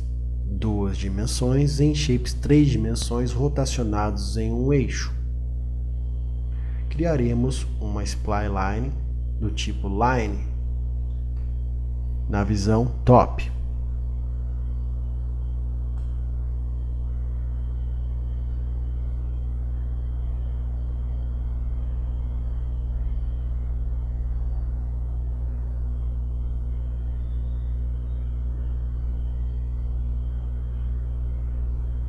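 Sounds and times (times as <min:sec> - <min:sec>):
low droning hum: 0:00.0 - 0:32.0.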